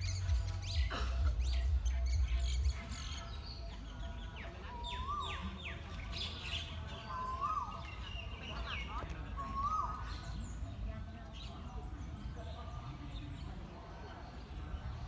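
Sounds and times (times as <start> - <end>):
birds whistling: 0.0 - 13.3.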